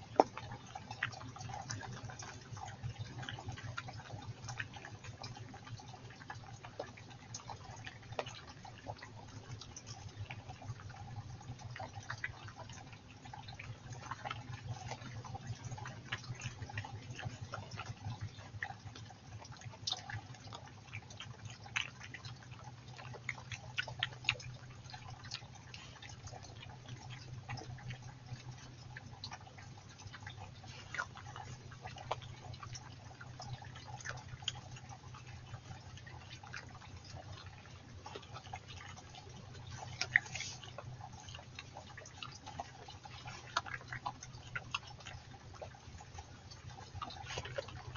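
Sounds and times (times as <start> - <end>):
badger snuffling and chewing: 0.0 - 47.9
stream trickling: 0.0 - 47.9
water drips and plinks: 0.0 - 47.9.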